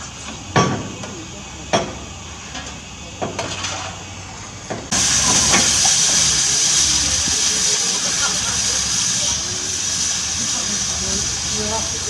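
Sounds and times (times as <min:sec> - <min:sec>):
low steady engine hum: 0:00.0 - 0:12.0
steam hissing: 0:00.0 - 0:12.0.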